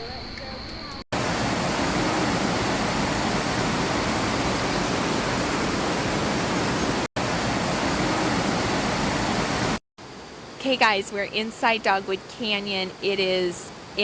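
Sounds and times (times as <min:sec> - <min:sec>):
water rushing: 0:01.2 - 0:14.0.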